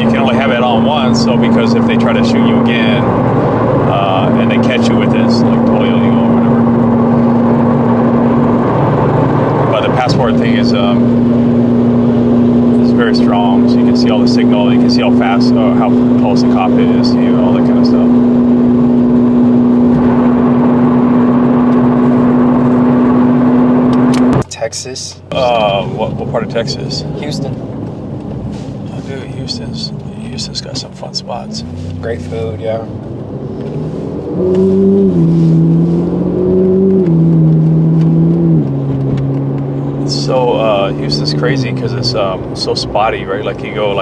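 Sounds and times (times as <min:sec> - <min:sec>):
car engine droning: 0:00.0 - 0:44.0
road noise inside car: 0:00.0 - 0:44.0.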